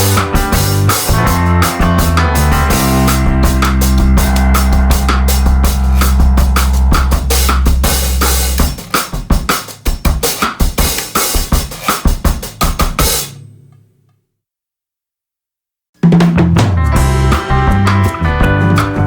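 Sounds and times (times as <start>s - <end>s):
music with drum beat and heavy bass: 0.0s - 13.4s, 16.0s - 19.0s.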